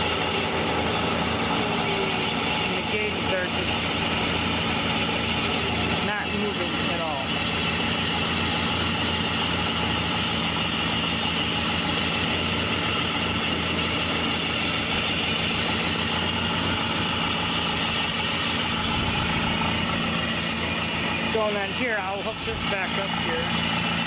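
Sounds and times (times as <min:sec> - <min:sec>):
car engine idling: 0:00.0 - 0:24.0
drive belt squealing: 0:00.0 - 0:24.0.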